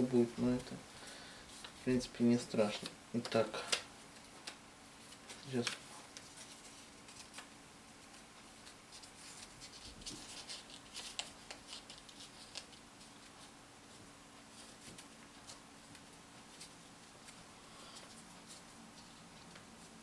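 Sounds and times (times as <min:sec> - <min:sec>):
paper being folded: 0:02.7 - 0:20.0.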